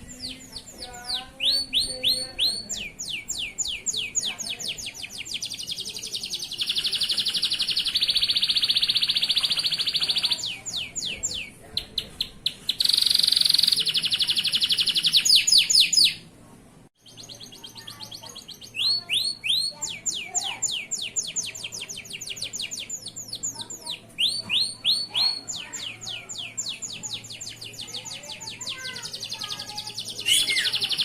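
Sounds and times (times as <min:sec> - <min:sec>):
canary singing with buzzy trills: 0:00.0 - 0:16.3, 0:17.0 - 0:31.0.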